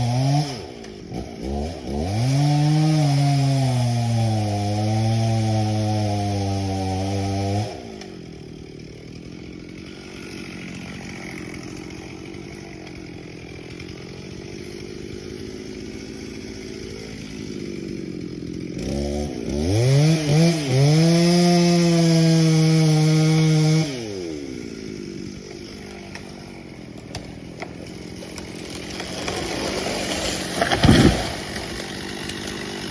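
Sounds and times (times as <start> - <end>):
chainsaw revving and idling: 0.0 - 32.9.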